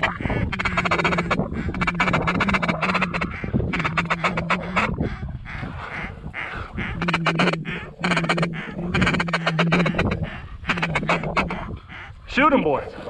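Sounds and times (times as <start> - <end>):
duck call chattering: 0.0 - 12.1.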